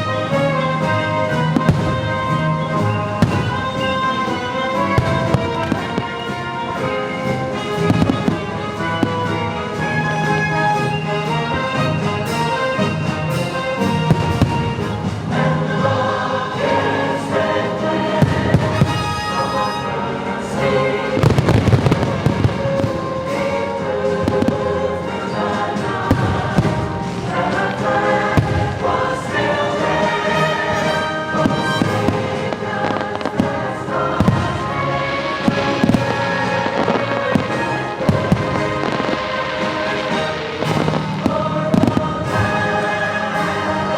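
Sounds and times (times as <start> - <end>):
firework bangs: 0.0 - 15.4, 17.3 - 43.2
orchestral and choral music: 0.0 - 43.9.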